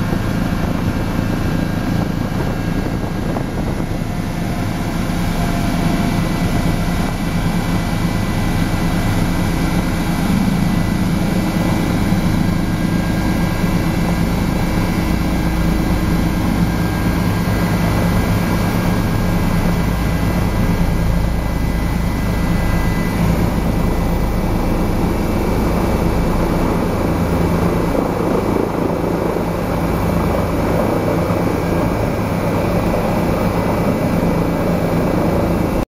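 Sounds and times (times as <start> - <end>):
helicopter turbine and rotor: 0.0 - 35.9.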